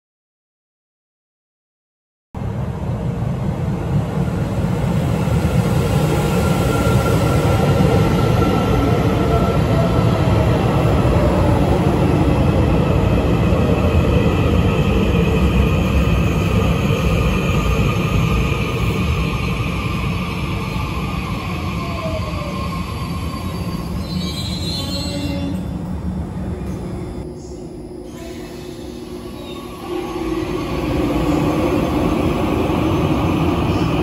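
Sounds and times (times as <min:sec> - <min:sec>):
electric train whine: 0:03.0 - 0:34.0.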